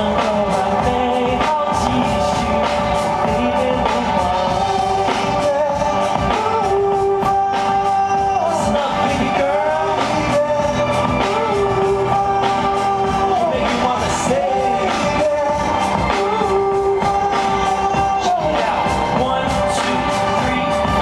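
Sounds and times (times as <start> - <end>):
drum beat: 0.0 - 21.0
guitar: 0.0 - 21.0.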